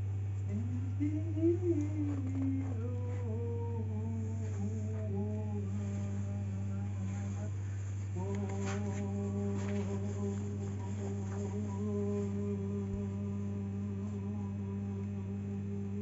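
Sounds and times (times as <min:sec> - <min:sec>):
man humming into a microphone: 0:00.0 - 0:16.0
steady low hum: 0:00.0 - 0:16.0.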